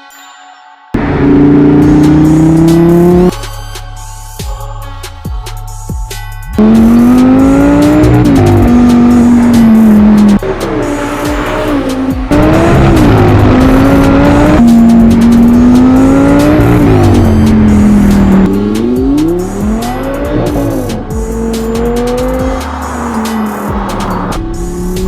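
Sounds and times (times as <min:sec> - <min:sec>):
car engine revving: 0:01.0 - 0:03.4, 0:06.6 - 0:25.0.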